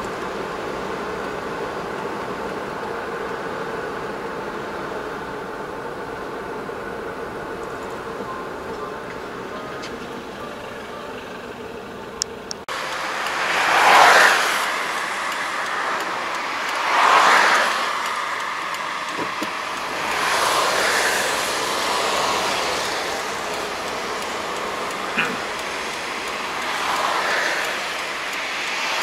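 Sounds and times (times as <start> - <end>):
car road noise from inside: 0.0 - 29.0
passing traffic whooshes: 0.0 - 29.0.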